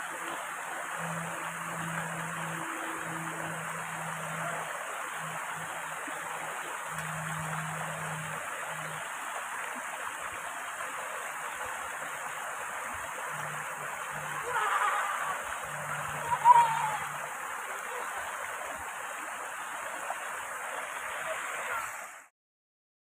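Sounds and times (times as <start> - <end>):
stream rushing over rocks: 0.0 - 22.3.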